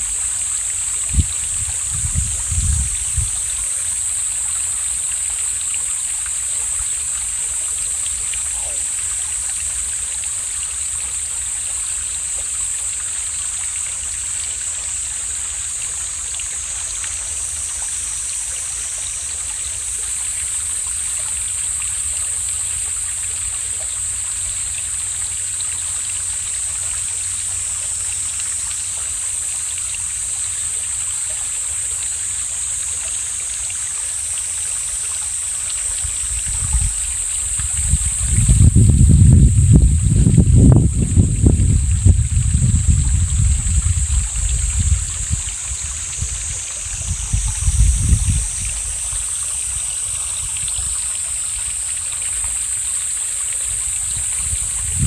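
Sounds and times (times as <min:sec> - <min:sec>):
high-pitched hiss: 0:00.0 - 0:55.0
stream flowing: 0:00.0 - 0:55.0.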